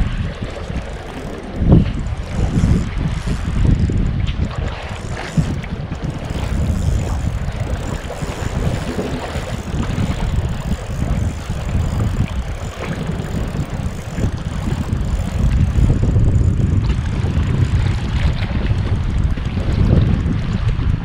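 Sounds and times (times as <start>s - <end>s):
sea washing on rocks: 0.0s - 21.0s
wind buffeting microphone: 0.0s - 21.0s.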